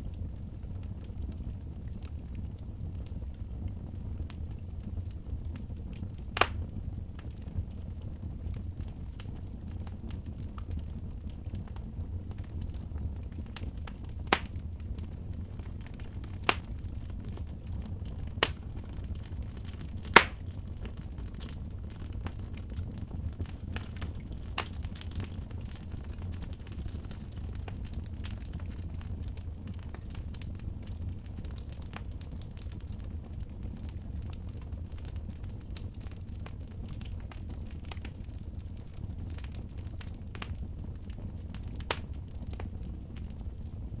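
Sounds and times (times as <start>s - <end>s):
fire crackling: 0.0s - 44.0s
wood fire rumbling: 0.0s - 44.0s
loud fire pops: 0.1s - 44.0s.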